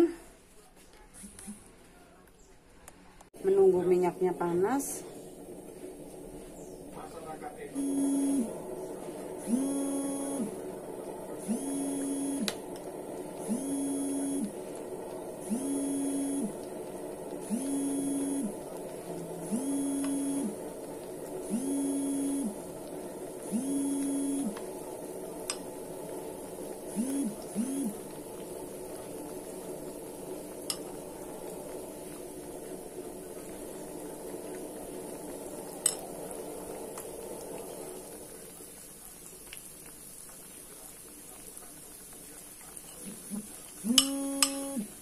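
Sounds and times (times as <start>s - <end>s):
food frying in hot oil: 3.7s - 45.0s.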